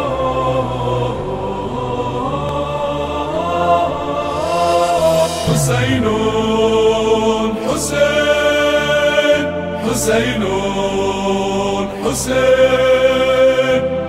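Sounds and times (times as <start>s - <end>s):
layered vocal chant: 0.0s - 14.0s.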